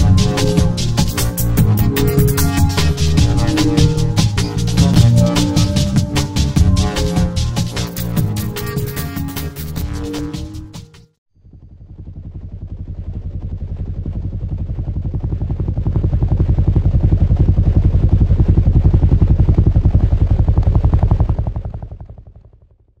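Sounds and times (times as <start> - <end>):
helicopter rotor chop: 0.0 - 10.0, 11.4 - 22.6.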